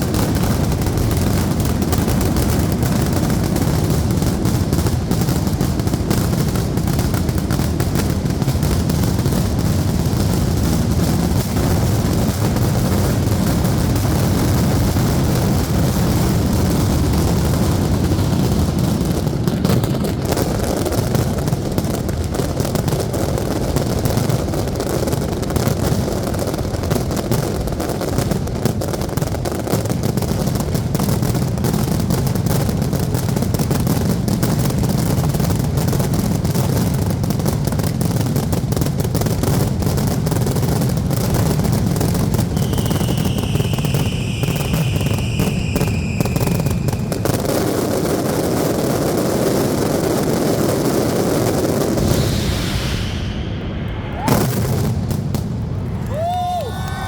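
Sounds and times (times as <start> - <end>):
aerial fireworks bursting and crackling: 0.0 - 57.0.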